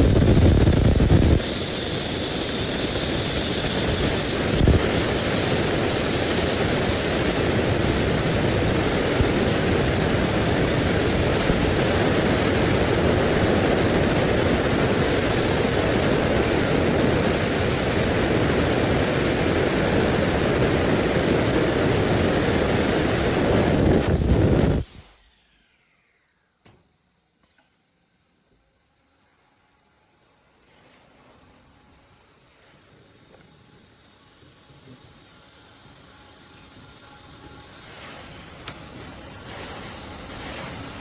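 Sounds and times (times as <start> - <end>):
machine saw blade running: 0.0 - 26.6, 30.5 - 41.0.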